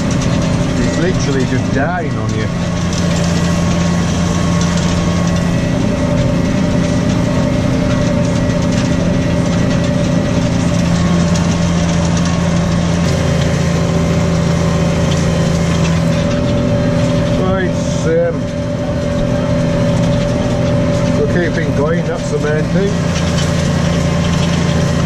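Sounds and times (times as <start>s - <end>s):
tractor engine under load: 0.0s - 25.0s.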